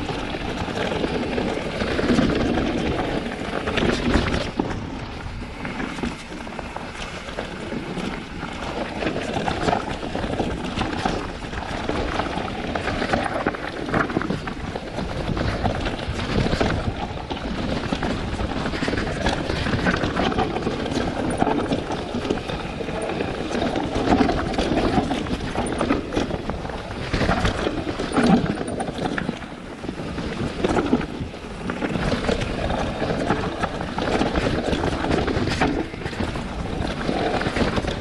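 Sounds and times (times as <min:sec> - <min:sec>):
bike rattling over stones: 0:00.0 - 0:38.0
wind rumble on microphone: 0:00.0 - 0:38.0.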